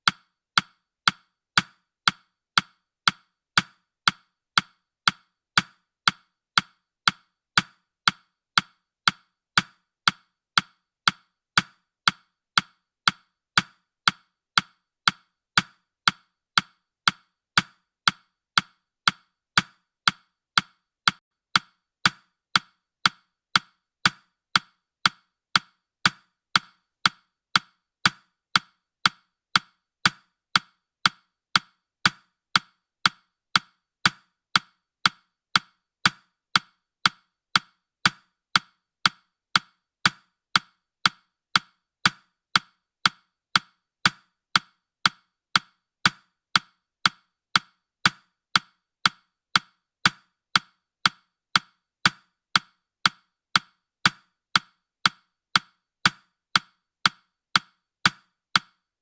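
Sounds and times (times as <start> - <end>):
clock ticking: 0.0 - 58.8.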